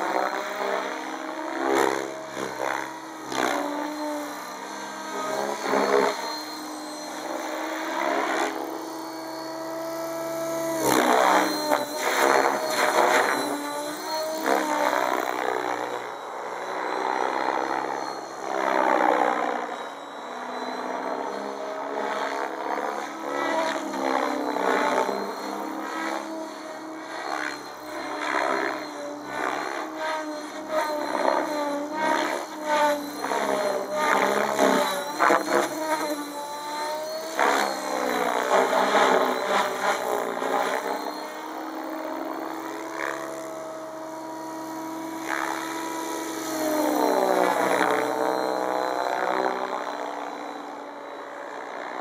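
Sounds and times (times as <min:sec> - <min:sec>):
rc helicopter motor and rotor whine: 0:00.0 - 0:52.0.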